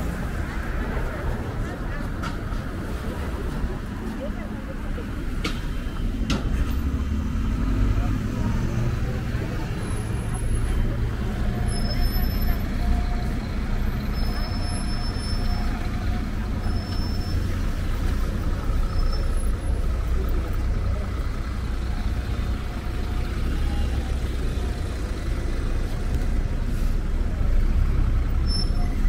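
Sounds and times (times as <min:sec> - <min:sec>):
bus diesel engine drone: 0:00.0 - 0:29.0
street traffic noise: 0:00.0 - 0:29.0.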